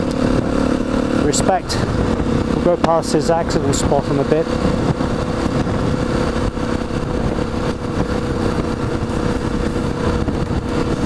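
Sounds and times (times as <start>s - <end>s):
motorcycle engine hum: 0.0s - 11.0s
wind buffeting microphone: 0.0s - 11.0s.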